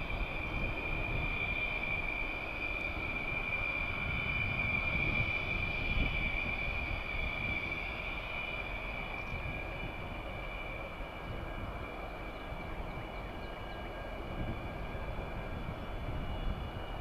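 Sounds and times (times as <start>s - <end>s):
fighter jet engine whine: 0.0s - 17.0s.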